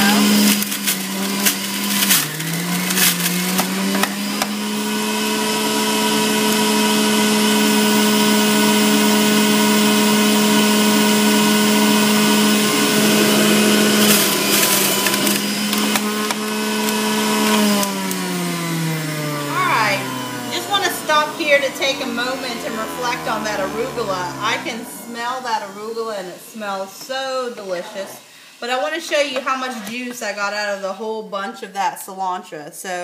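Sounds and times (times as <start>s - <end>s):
juicer motor humming: 0.0s - 27.8s.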